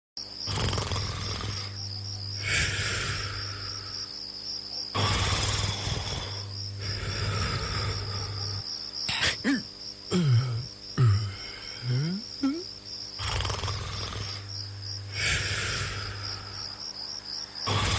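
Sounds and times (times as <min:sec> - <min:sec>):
cricket chirping trill: 0:00.2 - 0:17.9
person snoring: 0:00.5 - 0:04.1, 0:04.9 - 0:17.0, 0:17.6 - 0:17.9.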